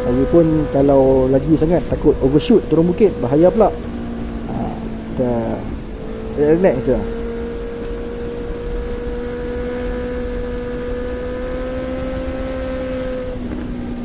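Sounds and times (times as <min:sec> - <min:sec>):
low wind rumble on microphone: 0:00.0 - 0:14.0
motorcycle engine running: 0:00.0 - 0:14.0.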